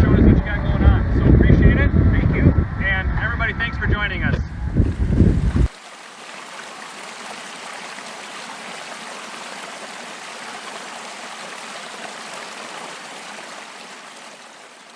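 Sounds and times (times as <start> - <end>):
creek water rushing: 0.0 - 14.9.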